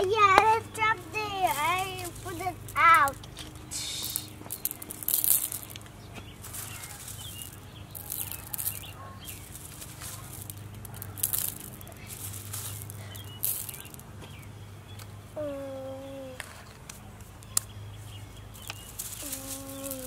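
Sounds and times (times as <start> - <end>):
gravel pebbles clicking and rattling: 0.0 - 15.1, 16.4 - 20.0.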